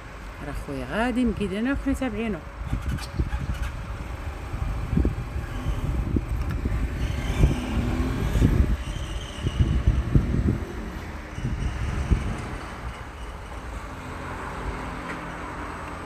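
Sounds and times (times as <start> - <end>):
car road rumble on dirt track: 2.4 - 16.0.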